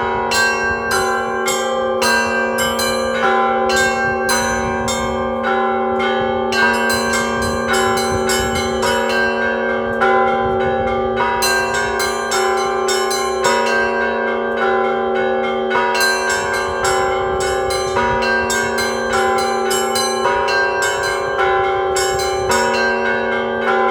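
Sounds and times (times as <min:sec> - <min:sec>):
low bell ringing hum: 0:00.0 - 0:23.9
small bells pealing: 0:00.0 - 0:23.9.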